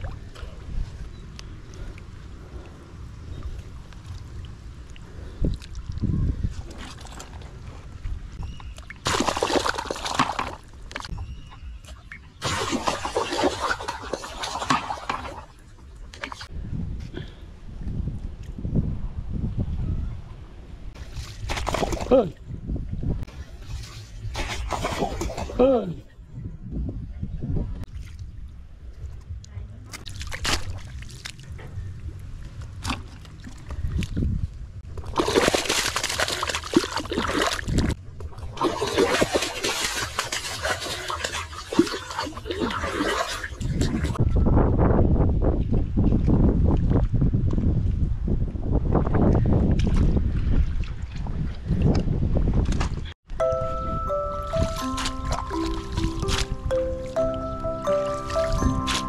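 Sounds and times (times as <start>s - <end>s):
muddy water splashing and sloshing: 0.0s - 16.6s, 20.9s - 26.0s, 27.8s - 44.5s, 45.5s - 59.0s.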